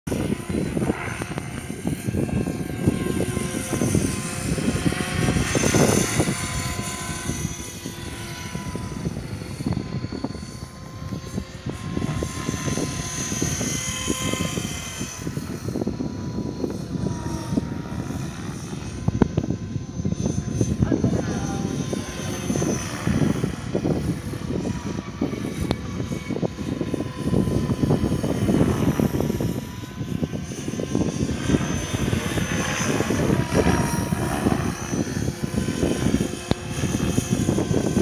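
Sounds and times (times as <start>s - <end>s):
wind noise on microphone: 0.0s - 38.0s
rc helicopter motor and rotor whine: 0.1s - 38.0s.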